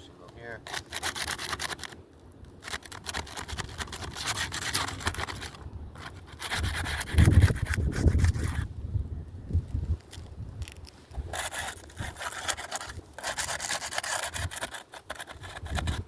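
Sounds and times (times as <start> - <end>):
scraping tool rasping under shingles: 0.6 - 2.0, 2.6 - 8.7, 10.1 - 16.0.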